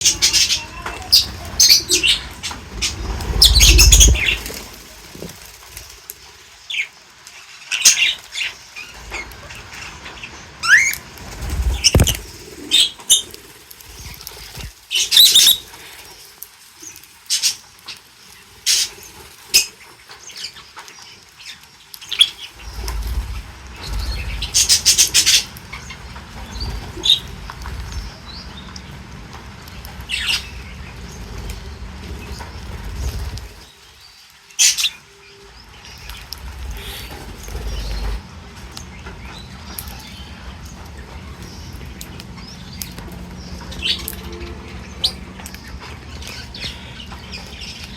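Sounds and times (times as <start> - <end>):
wings flapping: 0.0 - 40.0
birds chirping and squawking: 0.0 - 47.9.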